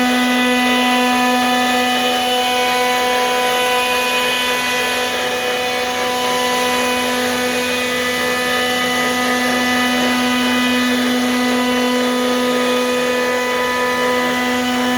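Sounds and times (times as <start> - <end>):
router spindle whine: 0.0 - 14.9.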